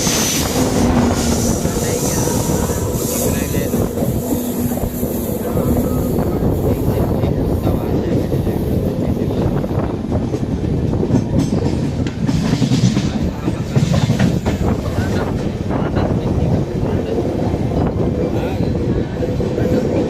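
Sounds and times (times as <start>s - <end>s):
train rumbling along track: 0.0s - 20.0s.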